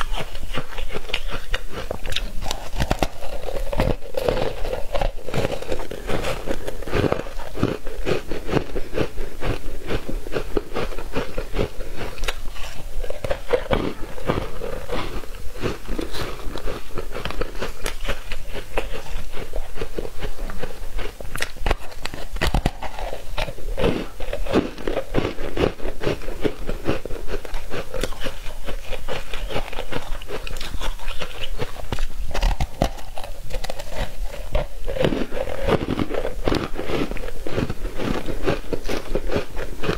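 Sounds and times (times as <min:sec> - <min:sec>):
ice crunching while chewing: 0:00.0 - 0:39.9.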